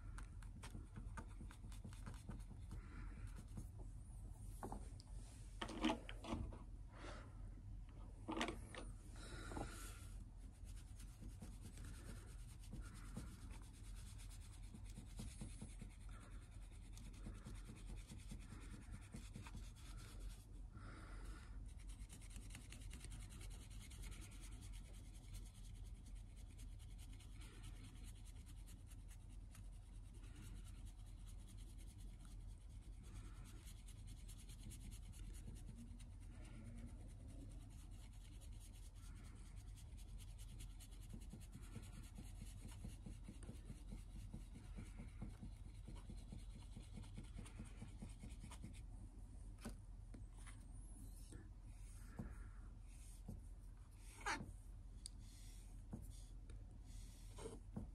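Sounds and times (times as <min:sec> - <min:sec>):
low steady hum: 0:00.0 - 0:57.9
cotton swab rubbing wood: 0:09.3 - 0:48.9, 0:50.4 - 0:57.9.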